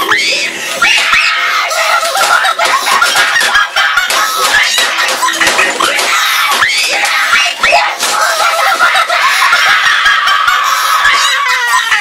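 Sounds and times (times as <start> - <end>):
reversed high-pitched cartoon laughter: 0.0 - 12.0.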